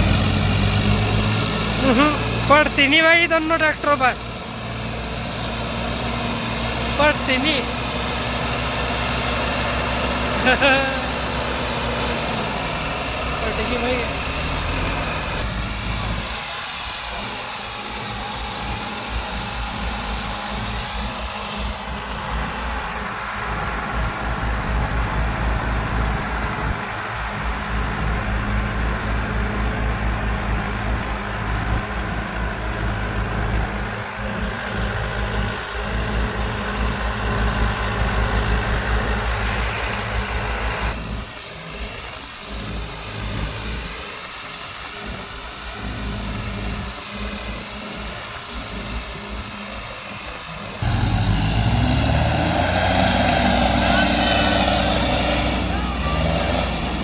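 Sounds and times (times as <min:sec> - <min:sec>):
diesel tractor engine chugging: 0:00.0 - 0:57.0.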